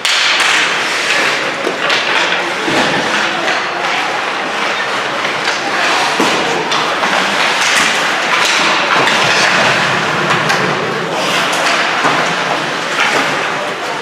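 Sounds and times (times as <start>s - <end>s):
crowd and arena noise: 0.0s - 14.0s
hockey sticks and puck knocking: 0.0s - 14.0s.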